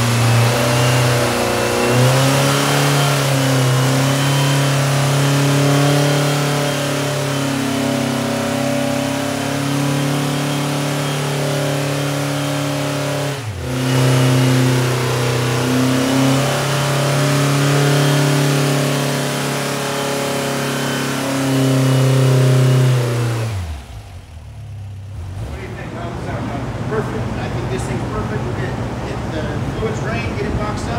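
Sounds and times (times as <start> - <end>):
air-cooled engine running: 0.0 - 30.9.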